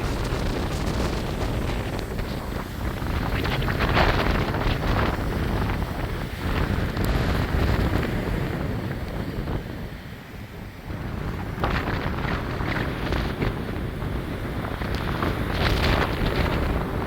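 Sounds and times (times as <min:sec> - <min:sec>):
wind gusts buffeting microphone: 0:00.0 - 0:17.0.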